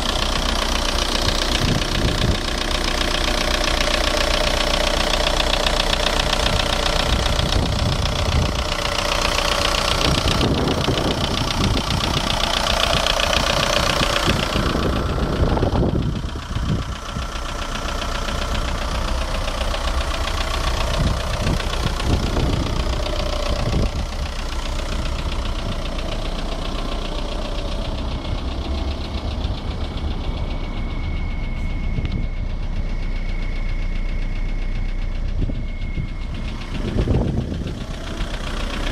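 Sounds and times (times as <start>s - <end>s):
diesel engine running with knock: 0.0s - 38.9s.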